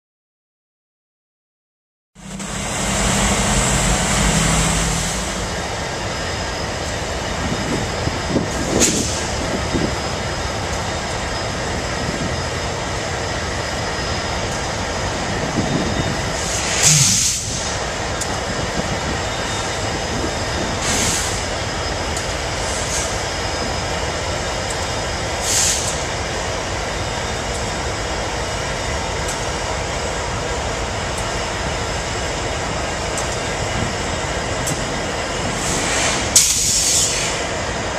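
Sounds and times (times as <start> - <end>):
diesel locomotives rumbling: 2.2 - 37.9.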